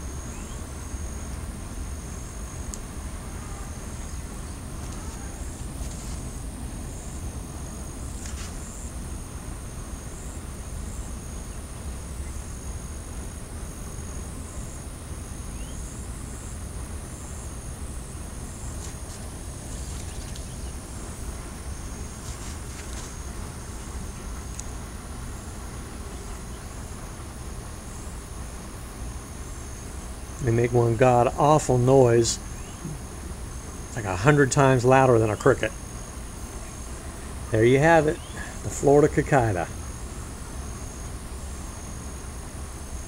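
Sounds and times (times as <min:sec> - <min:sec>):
insects trilling: 0:00.0 - 0:43.0
pulsing high insect note: 0:00.0 - 0:43.0.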